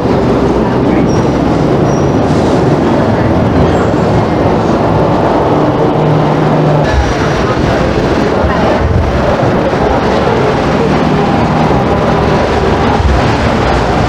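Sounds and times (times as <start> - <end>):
tram wheels rumbling on rail: 0.0 - 14.0.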